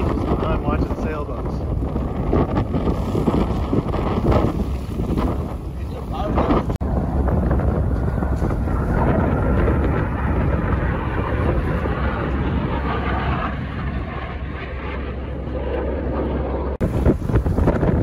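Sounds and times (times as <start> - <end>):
jets roaring overhead: 0.0 - 18.0
wind buffeting microphone: 0.0 - 18.0.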